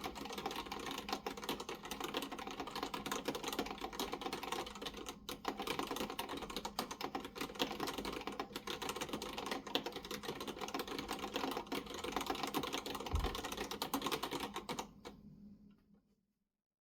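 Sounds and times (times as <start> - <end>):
keyboard typing clatter: 0.0 - 15.2.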